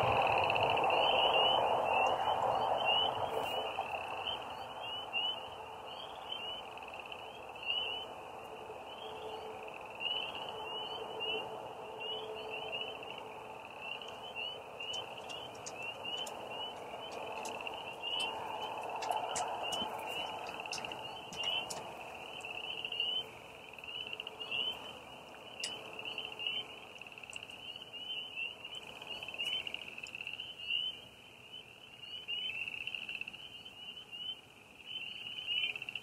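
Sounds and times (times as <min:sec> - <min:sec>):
frogs and crickets chirping: 0:00.0 - 0:36.0.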